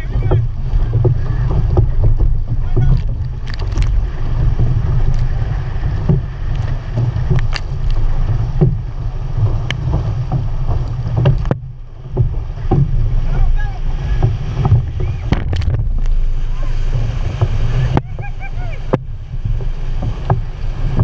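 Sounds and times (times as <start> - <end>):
paddle strokes in water: 0.0 - 21.0
water splashing against hull: 0.0 - 21.0
wind buffeting microphone: 0.0 - 21.0.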